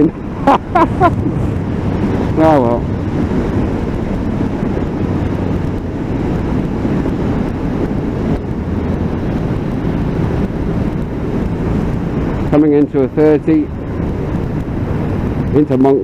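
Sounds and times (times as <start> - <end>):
wind noise: 0.0 - 16.0.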